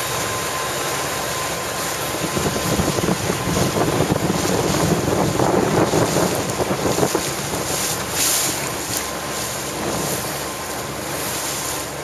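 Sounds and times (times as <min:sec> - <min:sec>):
wind buffeting microphone: 0:02.1 - 0:12.0.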